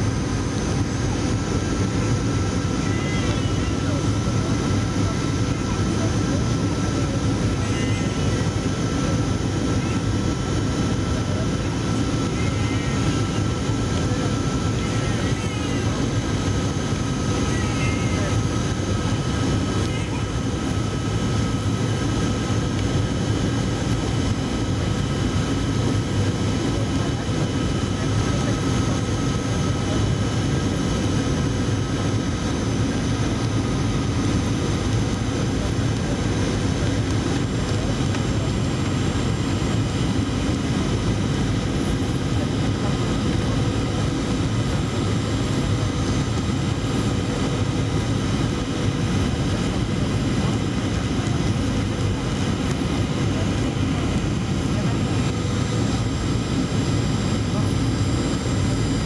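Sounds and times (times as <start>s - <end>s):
airplane engines humming: 0.0s - 59.0s.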